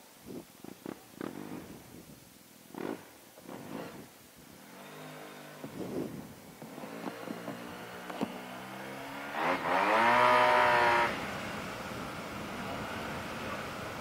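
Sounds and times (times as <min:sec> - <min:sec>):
motorcycle engine revving: 0:00.8 - 0:01.8, 0:02.7 - 0:14.0.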